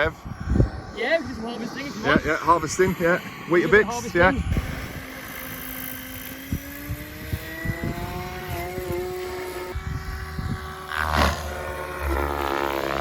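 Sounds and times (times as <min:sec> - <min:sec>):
rc helicopter rotor whine: 0:00.0 - 0:13.0
wind buffeting microphone: 0:00.0 - 0:13.0.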